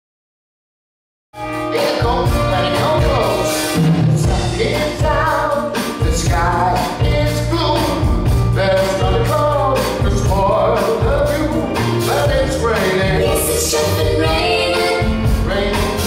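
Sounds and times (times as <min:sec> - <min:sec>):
band with steady drum beat: 0:01.4 - 0:16.0
man singing: 0:01.7 - 0:16.0.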